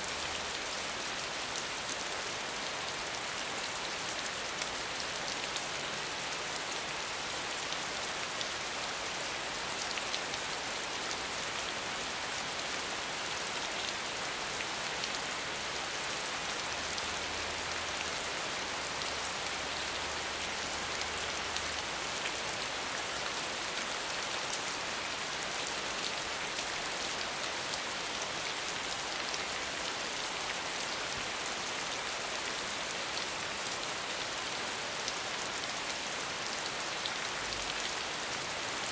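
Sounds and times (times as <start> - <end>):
rain falling on ground: 0.0 - 38.9.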